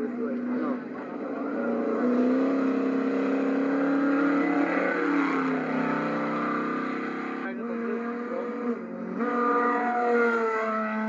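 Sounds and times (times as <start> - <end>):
race truck engine revving high: 0.0 - 11.0.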